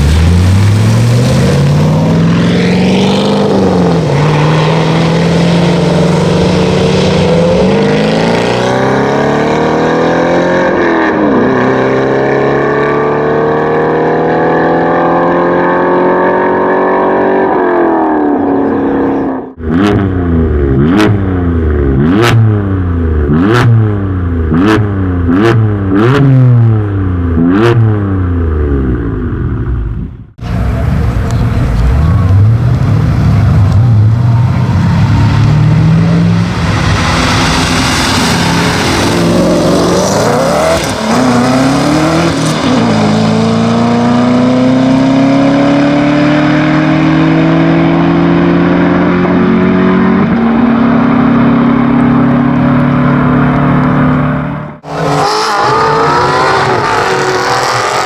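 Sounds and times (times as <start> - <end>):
cars accelerating hard: 0.0 - 22.6, 30.4 - 58.0
car engine revving: 0.0 - 58.0.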